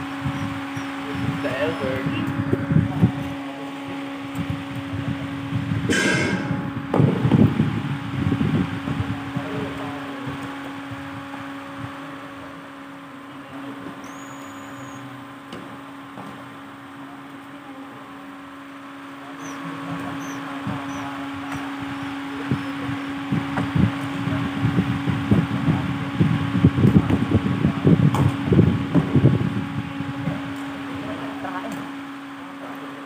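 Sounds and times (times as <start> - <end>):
fan-like hum: 0.0 - 33.0.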